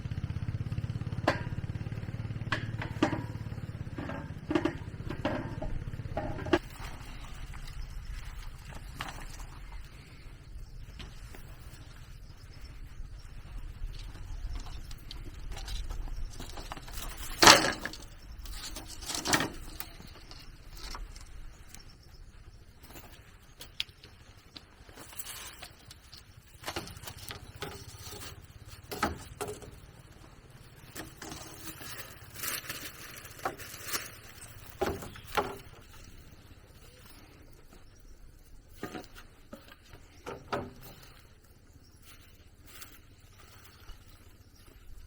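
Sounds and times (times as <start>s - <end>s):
rustling: 2.9s - 45.0s.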